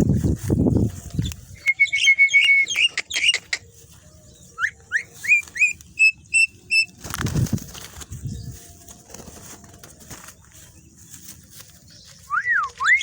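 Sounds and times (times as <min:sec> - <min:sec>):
birds whistling and chirping: 0:00.0 - 0:07.0, 0:08.0 - 0:13.0.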